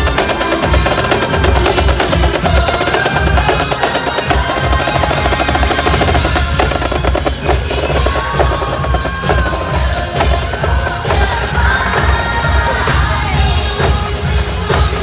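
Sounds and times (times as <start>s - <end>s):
marching snare drums: 0.0s - 15.0s.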